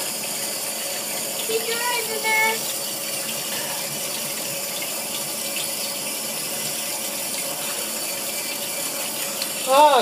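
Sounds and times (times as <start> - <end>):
water streaming from nozzles: 0.0 - 10.0.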